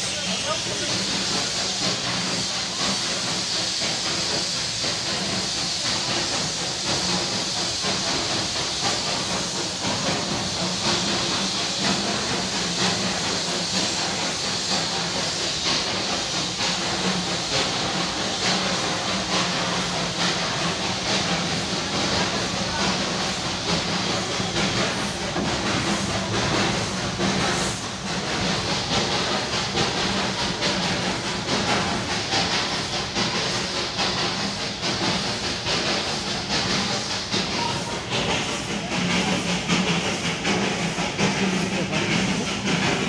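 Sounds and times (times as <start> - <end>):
steam locomotive hissing steam: 0.0 - 43.0.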